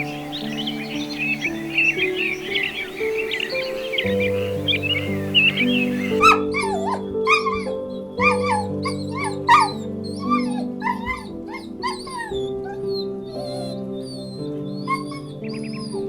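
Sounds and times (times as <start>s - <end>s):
high repeated animal calls: 0.0s - 16.0s
soft instrumental music: 0.0s - 16.0s.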